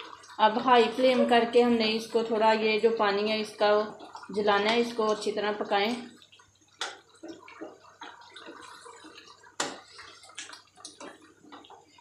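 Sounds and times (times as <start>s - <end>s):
gravy bubbling: 0.0s - 12.0s
wooden spatula stirring in pot: 0.0s - 12.0s.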